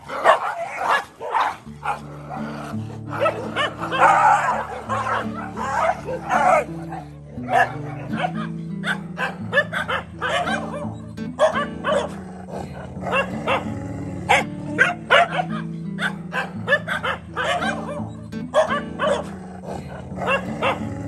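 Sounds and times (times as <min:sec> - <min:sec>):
dogs barking: 0:00.0 - 0:21.0
background music low tones: 0:01.7 - 0:21.0.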